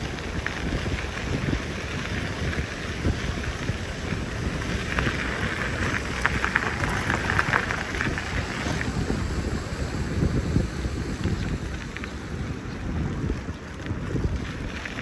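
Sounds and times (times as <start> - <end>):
crackling hiss: 0.0 - 15.0
wind rumbling on microphone: 0.0 - 15.0.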